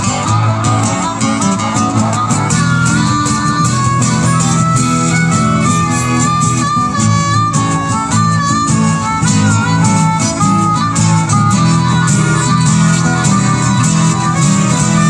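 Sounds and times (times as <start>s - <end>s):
harmonica melody: 0.0s - 15.0s
strummed acoustic guitars: 0.0s - 15.0s.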